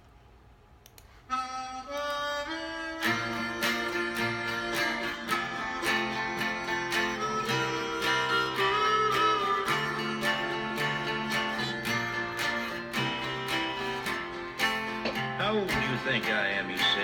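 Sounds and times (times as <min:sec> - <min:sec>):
harmonica melody: 0:01.2 - 0:17.0
strummed acoustic guitar: 0:02.5 - 0:17.0.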